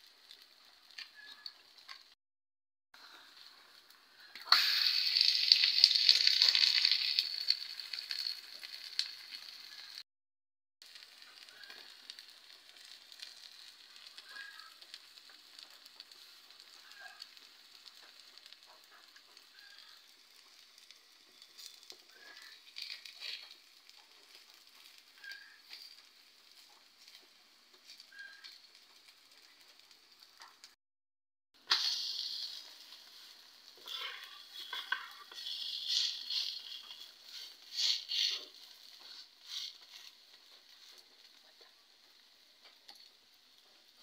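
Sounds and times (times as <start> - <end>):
batter sizzling in oil: 0.0 - 2.2, 3.0 - 10.0, 10.8 - 30.8, 31.6 - 44.0.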